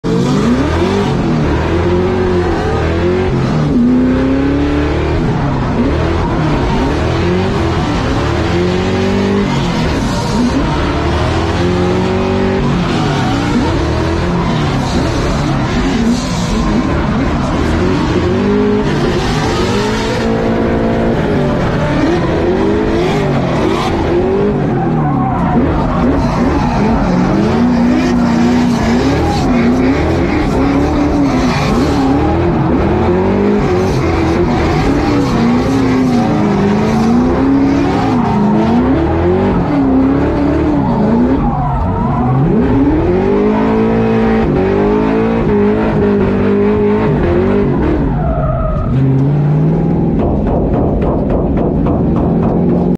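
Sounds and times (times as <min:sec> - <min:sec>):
engine revving: 0:00.0 - 0:52.9.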